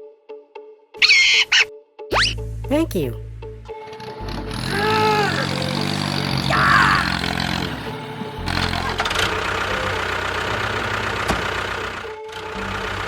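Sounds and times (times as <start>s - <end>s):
vehicle engine idling: 2.3s - 13.0s.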